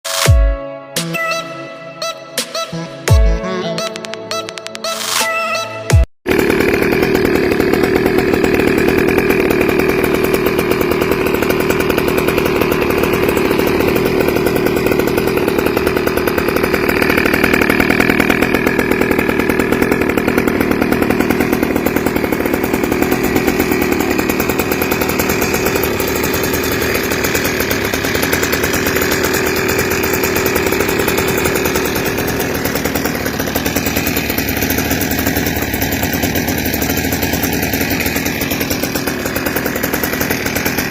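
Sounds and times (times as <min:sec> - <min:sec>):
buzzing two-stroke engine running: 0:05.6 - 0:40.9.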